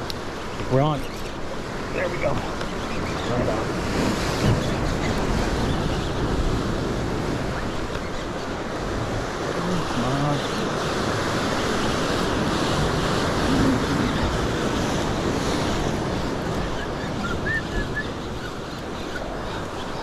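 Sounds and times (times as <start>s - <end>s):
surf breaking against rocks: 0.0s - 20.0s
wind on microphone: 0.0s - 20.0s.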